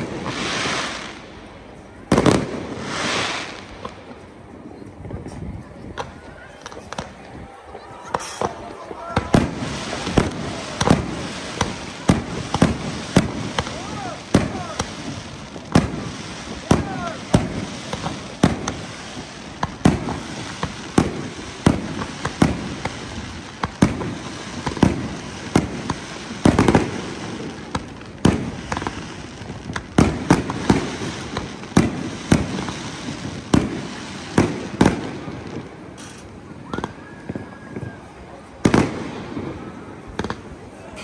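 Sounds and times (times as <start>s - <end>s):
fireworks whistles: 0.0s - 1.5s, 6.2s - 40.5s
fireworks bangs: 0.0s - 41.0s
fireworks crackling: 0.0s - 41.0s.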